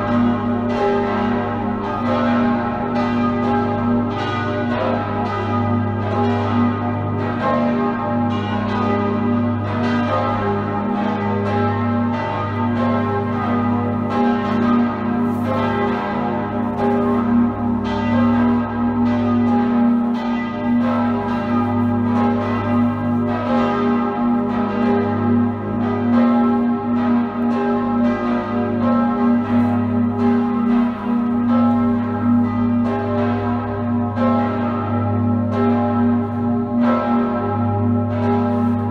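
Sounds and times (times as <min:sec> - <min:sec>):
church bells ringing: 0:00.0 - 0:38.9
deep hum of large bell: 0:00.0 - 0:38.9.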